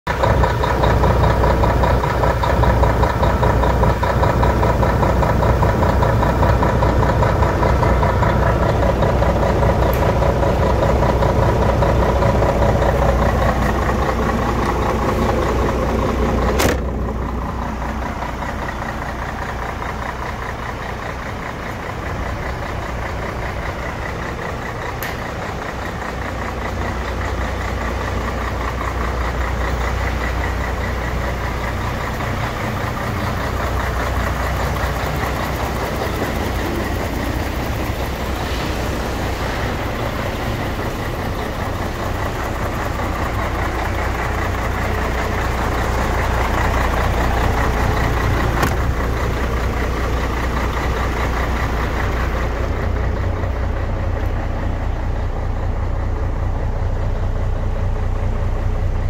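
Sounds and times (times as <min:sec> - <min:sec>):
truck diesel engine idling: 0:00.0 - 0:59.0.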